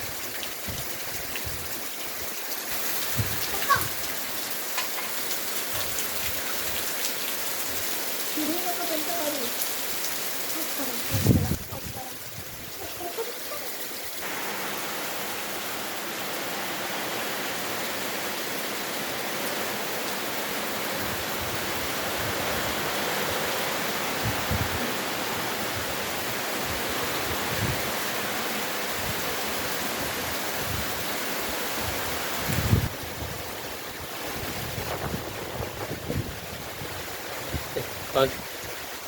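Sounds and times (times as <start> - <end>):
water rushing: 0.0 - 39.0.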